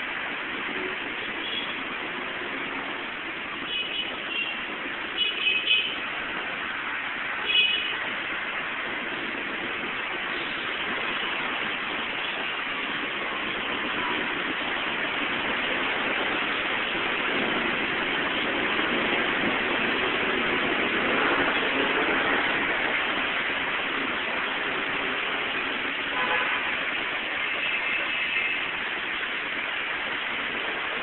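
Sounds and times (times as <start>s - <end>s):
heavy rain: 0.0s - 31.0s
tyres hissing on wet road: 0.0s - 31.0s.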